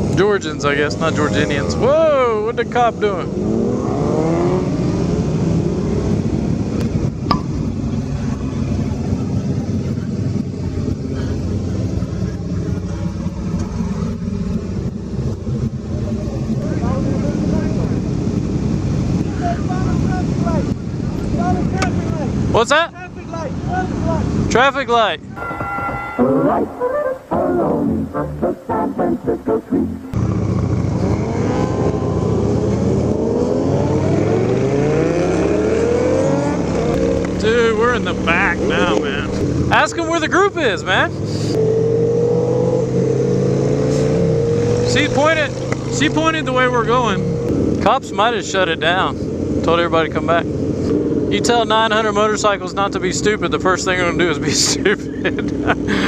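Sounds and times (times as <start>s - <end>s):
motorcycle engines droning: 0.0s - 56.0s
wind and road noise: 0.0s - 56.0s.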